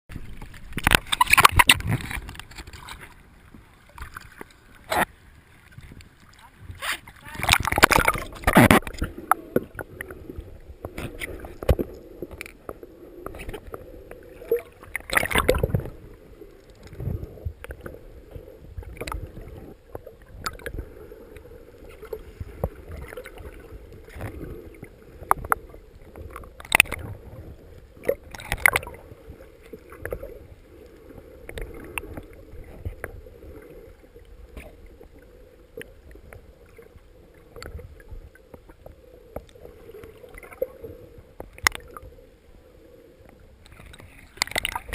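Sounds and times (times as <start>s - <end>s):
water sloshing around oars: 0.1s - 42.1s, 43.4s - 44.9s.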